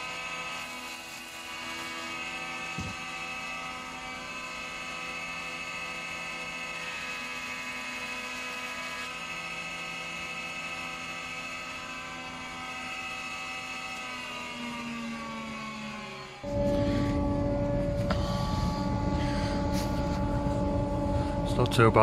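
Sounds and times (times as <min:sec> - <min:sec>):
thicknesser motor whine: 0:02.1 - 0:22.0.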